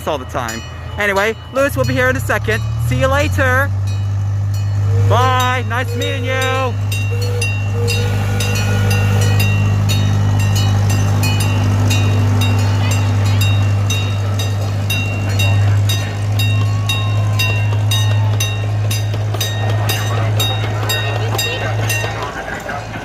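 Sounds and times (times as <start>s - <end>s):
train bell ringing: 0.0s - 23.0s
train running hum: 0.0s - 23.0s.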